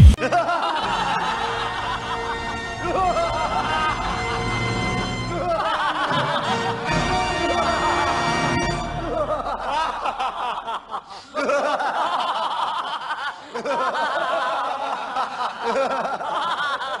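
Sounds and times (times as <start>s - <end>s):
people laughing together: 0.2s - 8.2s, 8.9s - 17.0s.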